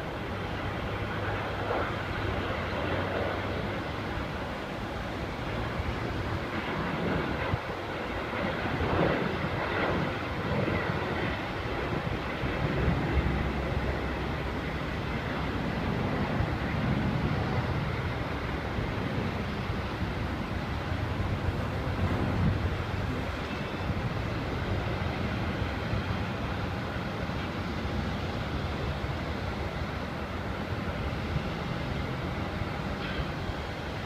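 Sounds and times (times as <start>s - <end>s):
jet airliner engines passing: 0.0s - 34.0s.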